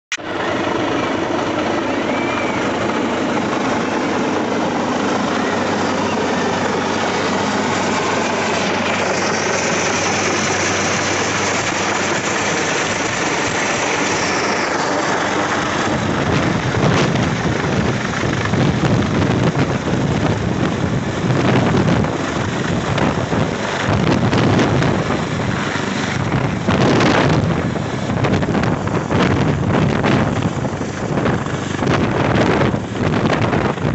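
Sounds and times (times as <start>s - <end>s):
helicopter rotors and engines: 0.1s - 33.9s
rotor downwash buffeting microphone: 0.3s - 33.9s.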